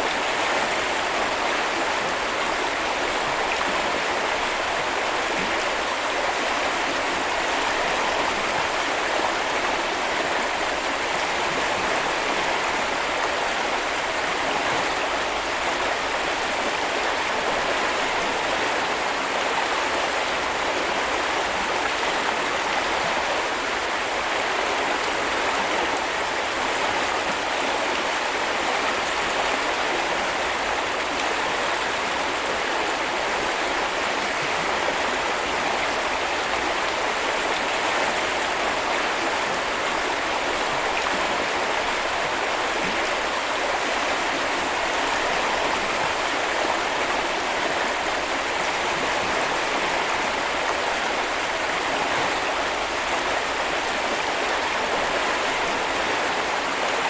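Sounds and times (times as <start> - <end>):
brook flowing: 0.0 - 57.0.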